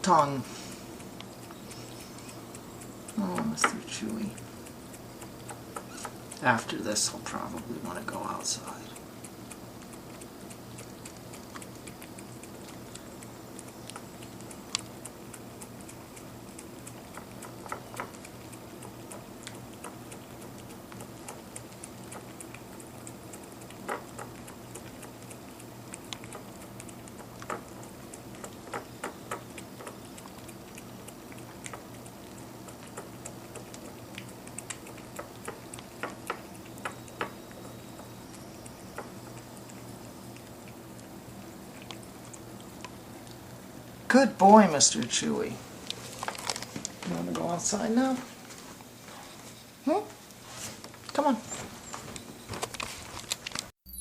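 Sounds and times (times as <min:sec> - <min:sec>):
steady low hum: 0:00.0 - 0:54.0
dog licking: 0:00.7 - 0:47.7.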